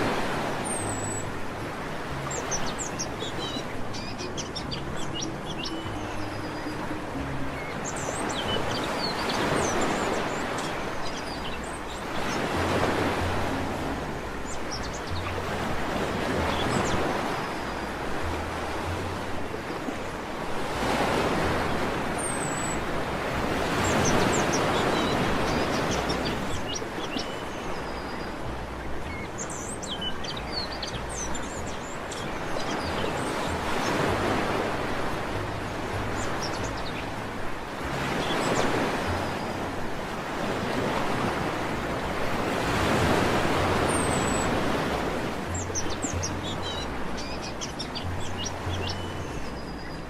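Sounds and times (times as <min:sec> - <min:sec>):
birds chirping: 0:00.0 - 0:50.0
sea waves washing onto beach: 0:00.0 - 0:50.0.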